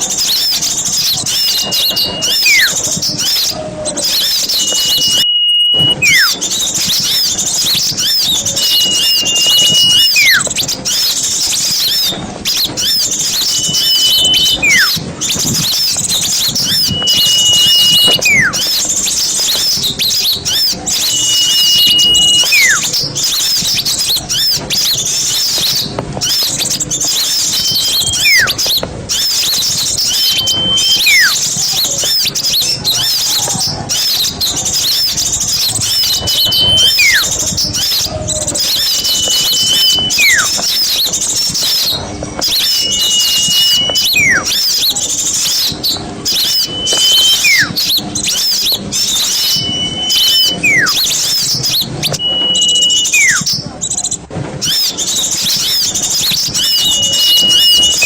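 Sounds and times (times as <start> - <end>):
bird whistle with falling slur: 0.0 - 58.0
songbirds chattering: 0.0 - 58.0.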